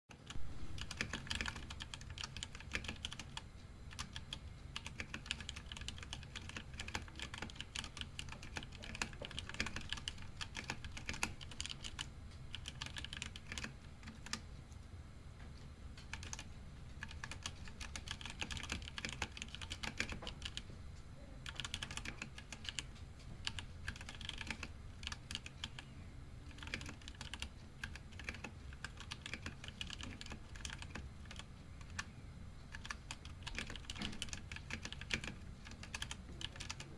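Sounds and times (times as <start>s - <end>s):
mechanical keyboard typing: 0.2s - 14.5s, 16.0s - 32.1s, 32.7s - 36.9s.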